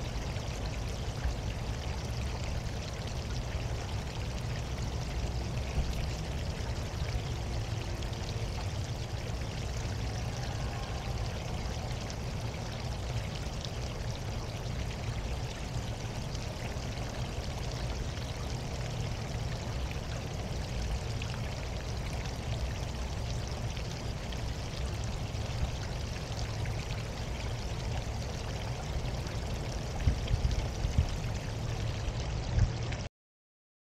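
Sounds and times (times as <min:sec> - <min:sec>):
fountain water pouring: 0:00.0 - 0:33.1.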